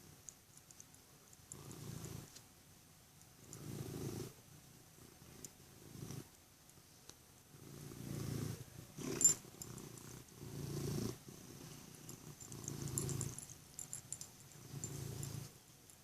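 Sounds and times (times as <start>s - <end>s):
cat purring: 0.0s - 2.4s, 3.4s - 6.4s, 7.5s - 16.0s.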